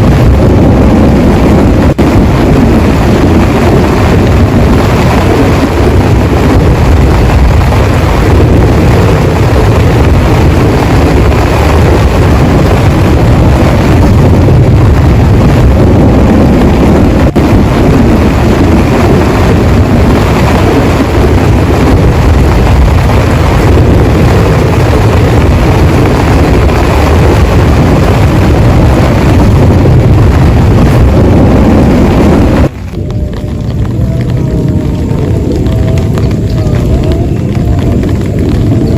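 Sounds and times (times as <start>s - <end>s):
heavy rain pouring: 0.0s - 38.9s
wind: 0.0s - 38.9s.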